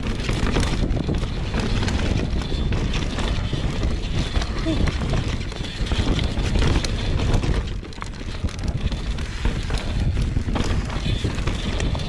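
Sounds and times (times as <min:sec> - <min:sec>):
bike rattling over bumps: 0:00.0 - 0:12.0
bike tyres over dirt and stones: 0:00.0 - 0:12.0
wind buffeting microphone: 0:00.0 - 0:12.0.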